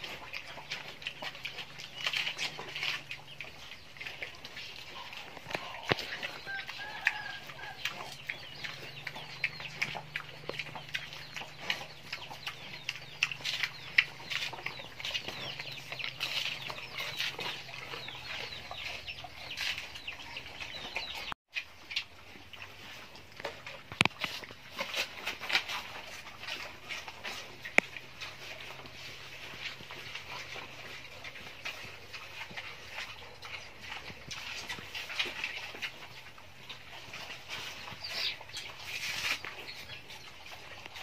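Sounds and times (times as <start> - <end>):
fowl clucking and chirping: 0.0 - 21.4, 23.6 - 41.0
pigs chewing and snuffling: 0.0 - 41.0.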